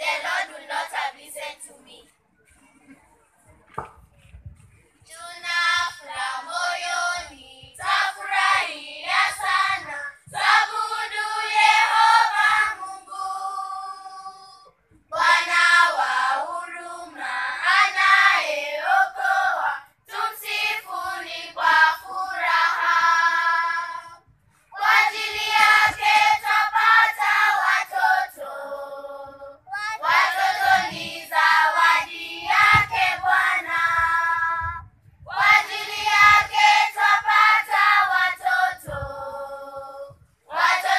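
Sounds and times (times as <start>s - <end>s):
children's choir singing: 0.0s - 1.7s, 5.1s - 40.9s.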